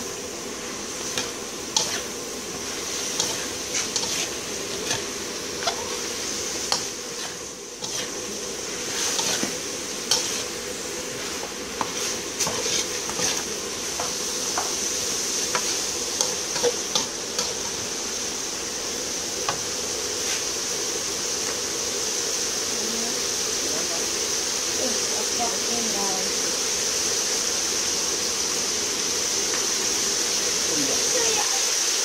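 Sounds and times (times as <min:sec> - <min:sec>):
food sizzling: 0:00.0 - 0:32.0.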